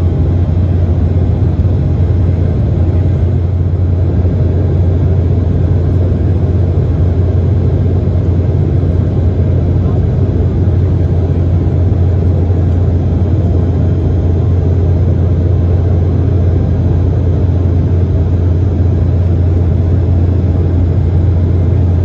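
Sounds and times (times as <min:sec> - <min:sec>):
airliner cabin engine drone: 0:00.0 - 0:22.0.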